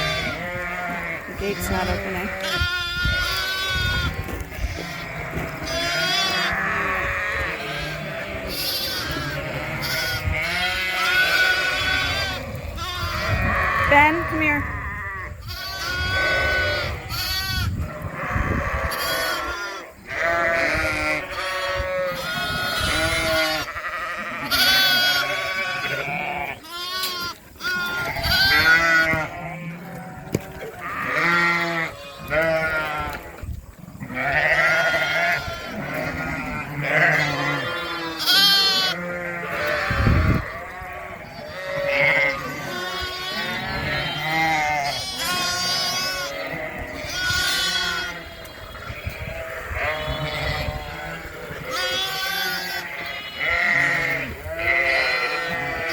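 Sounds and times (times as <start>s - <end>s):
sheep and lambs bleating: 0.0s - 55.9s.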